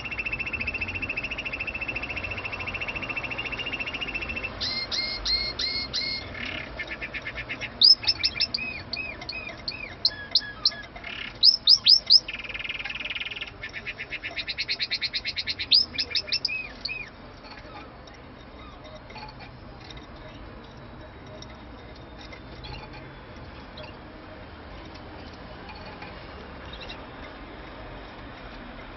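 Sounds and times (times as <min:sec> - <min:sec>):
canary singing trills: 0:00.0 - 0:24.1, 0:25.6 - 0:28.0.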